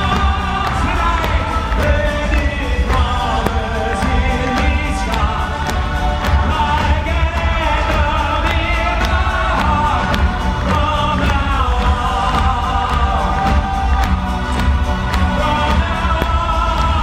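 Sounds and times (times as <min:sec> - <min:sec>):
live pop music with singing: 0:00.0 - 0:17.0.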